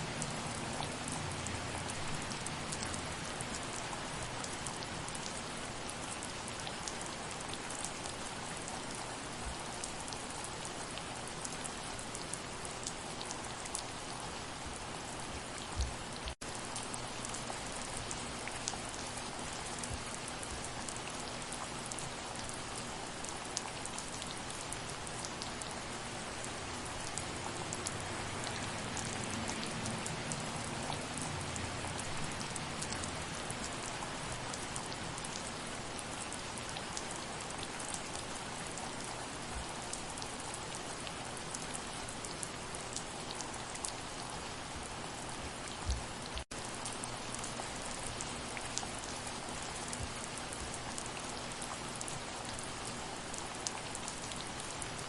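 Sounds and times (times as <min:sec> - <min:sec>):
soft rain falling: 0:00.0 - 0:55.0.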